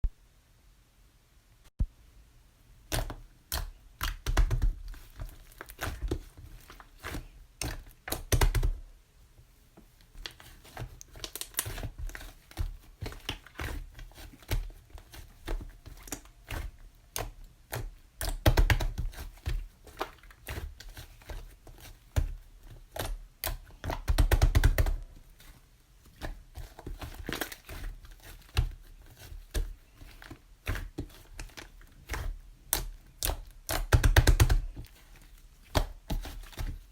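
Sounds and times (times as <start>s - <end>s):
crinkling handling sounds: 2.9s - 36.9s.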